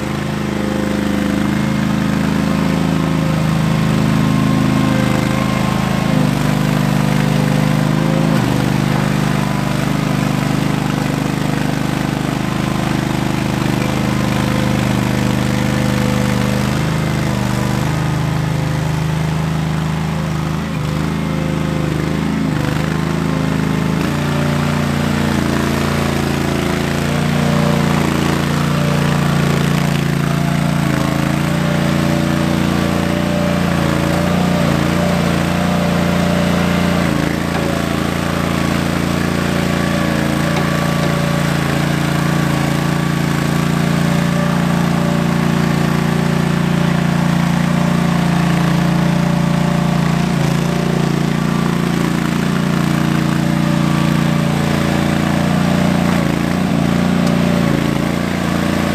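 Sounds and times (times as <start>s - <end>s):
garden tractor engine running: 0.0s - 58.9s.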